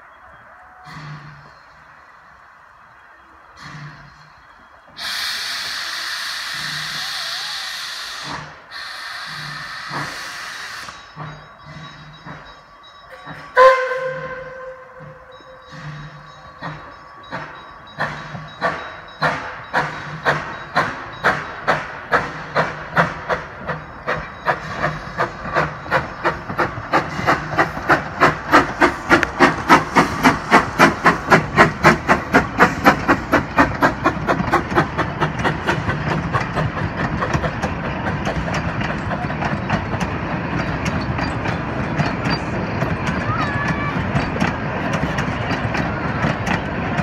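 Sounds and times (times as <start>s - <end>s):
steam locomotive chuffing: 0.6s - 47.0s
carriages rumbling and clattering: 8.2s - 47.0s.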